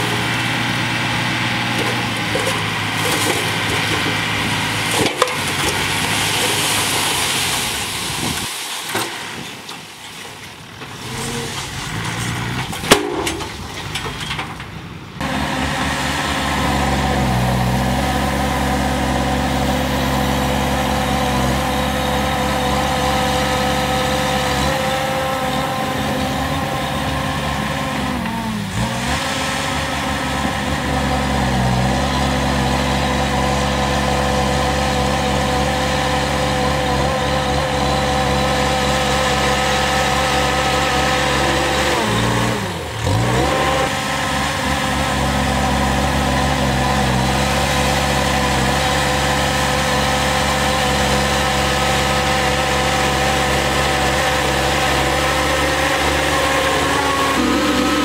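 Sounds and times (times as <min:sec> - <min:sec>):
bulldozer diesel engine running: 0:00.0 - 0:08.4, 0:09.2 - 0:58.0.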